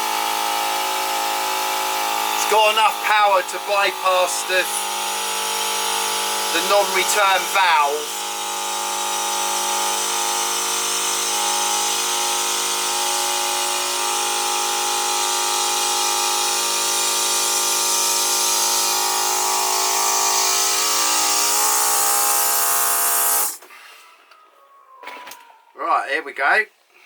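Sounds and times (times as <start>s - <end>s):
electric pump motor humming: 0.0s - 23.6s.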